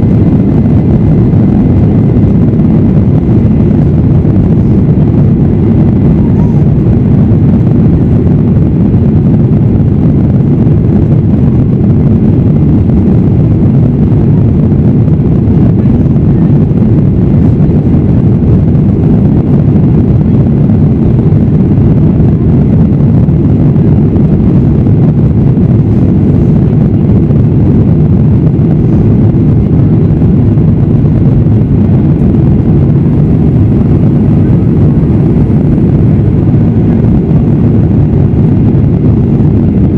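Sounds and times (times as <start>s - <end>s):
jet engines roaring in cabin: 0.0s - 39.9s
rushing air: 0.0s - 39.9s.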